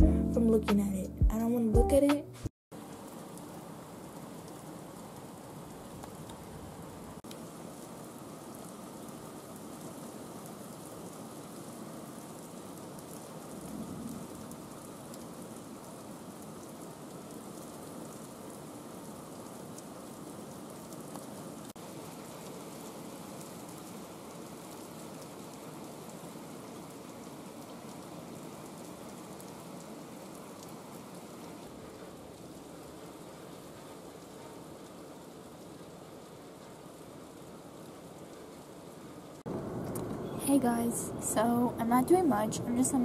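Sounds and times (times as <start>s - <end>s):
heavy rain falling: 2.7s - 39.8s, 40.8s - 43.0s.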